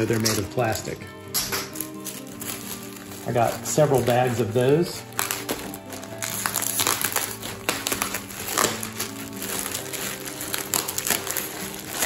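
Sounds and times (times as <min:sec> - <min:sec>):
plastic packing crinkling: 0:00.0 - 0:01.0, 0:01.6 - 0:12.0
background music with held chords: 0:00.0 - 0:12.0.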